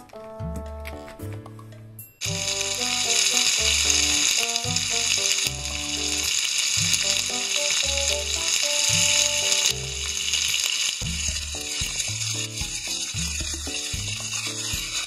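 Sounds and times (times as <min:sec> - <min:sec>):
light background music: 0:00.0 - 0:15.0
shrimp sizzling in a frying pan: 0:02.2 - 0:15.0.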